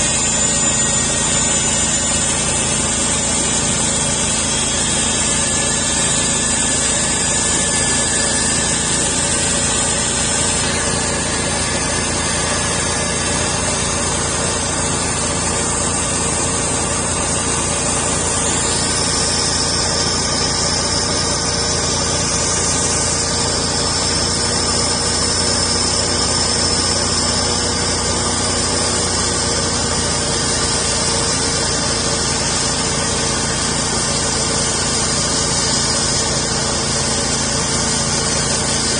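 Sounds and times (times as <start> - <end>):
high whine: 0.0 - 38.9
sawmill engine cutting log: 0.0 - 38.9.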